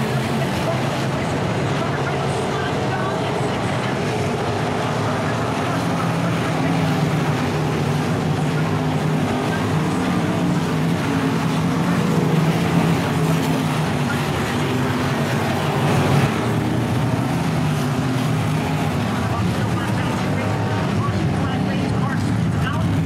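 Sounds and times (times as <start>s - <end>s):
race car engines at speed: 0.0s - 23.0s.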